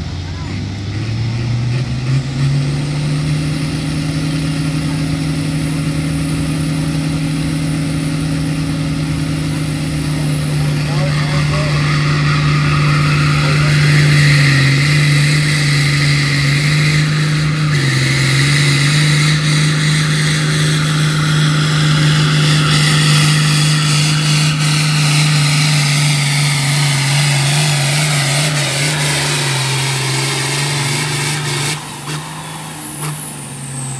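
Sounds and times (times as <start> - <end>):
diesel tractor engine under load: 0.0 - 33.9
high whine: 3.6 - 33.9.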